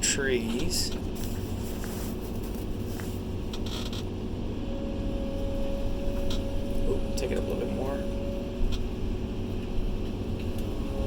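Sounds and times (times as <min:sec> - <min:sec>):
excavator diesel engine running: 0:00.0 - 0:11.0
high steady whine: 0:00.0 - 0:11.0.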